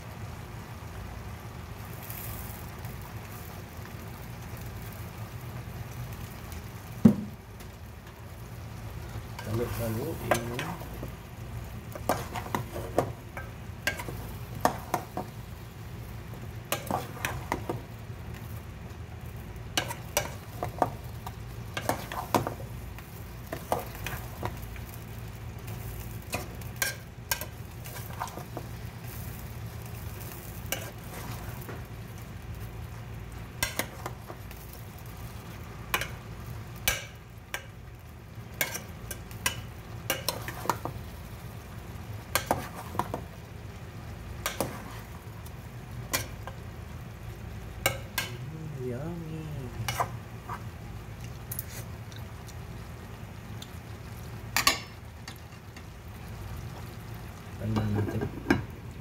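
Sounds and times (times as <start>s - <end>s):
food sizzling: 0.0s - 59.0s.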